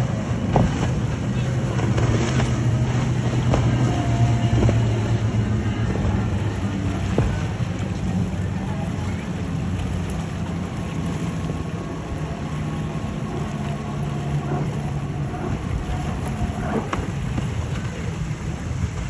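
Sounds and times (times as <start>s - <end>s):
outboard motors droning: 0.0s - 19.0s
wind and water hiss: 0.0s - 19.0s.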